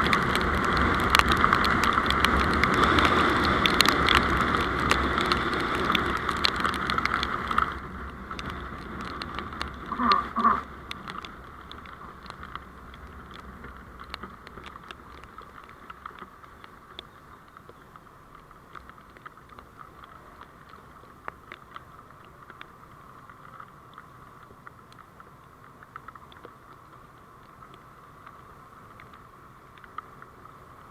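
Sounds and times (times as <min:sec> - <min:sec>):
road vehicle hiss with ticks: 0:00.0 - 0:30.9.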